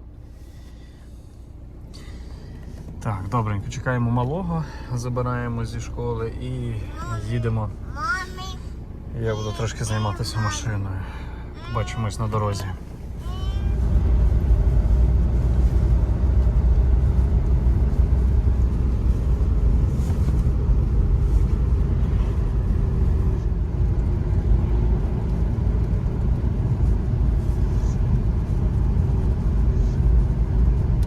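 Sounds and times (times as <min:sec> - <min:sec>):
car engine rumble: 0:00.0 - 0:31.0
road noise: 0:00.0 - 0:31.0.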